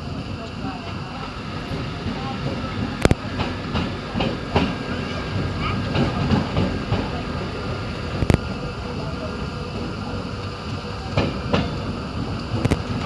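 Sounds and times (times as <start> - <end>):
train carriage rumbling: 0.0 - 13.0
train clacks: 0.0 - 13.0.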